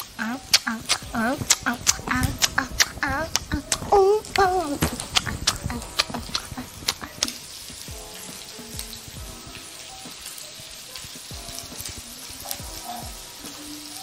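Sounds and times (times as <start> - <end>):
meatballs sizzling in oil: 0.0 - 14.0.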